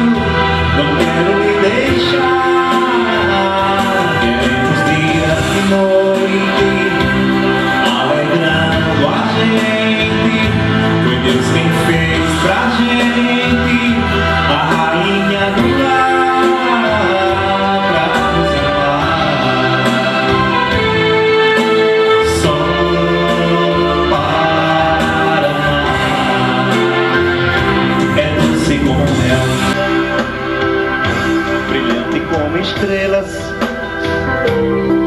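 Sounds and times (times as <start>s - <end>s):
instrumental song music: 0.0s - 35.0s.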